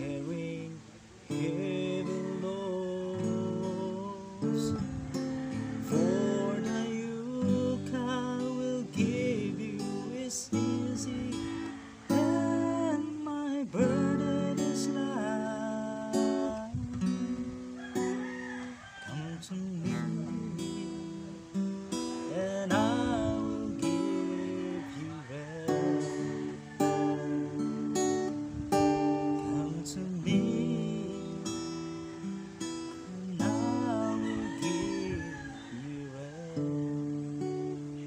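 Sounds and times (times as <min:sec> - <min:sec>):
man singing: 0:00.0 - 0:18.1, 0:19.0 - 0:38.0
strummed acoustic guitar: 0:00.0 - 0:38.0.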